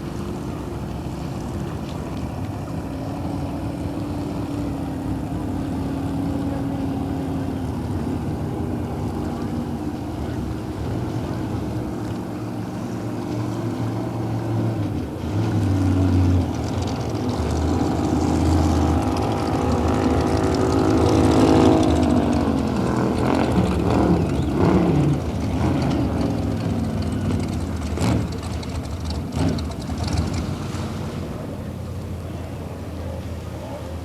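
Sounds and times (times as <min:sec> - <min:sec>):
racing boat engine passing: 0:00.0 - 0:34.0.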